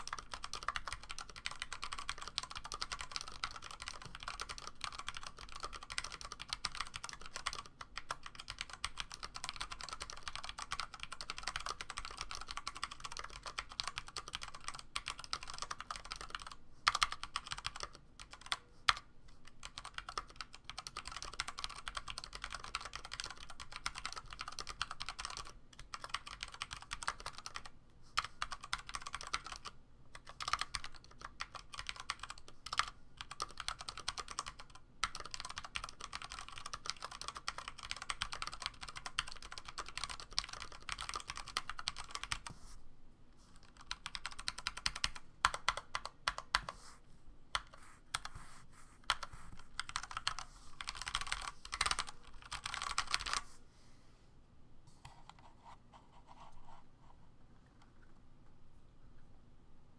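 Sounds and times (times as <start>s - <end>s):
mechanical keyboard typing: 0.0s - 42.5s, 43.6s - 46.8s, 49.1s - 53.5s.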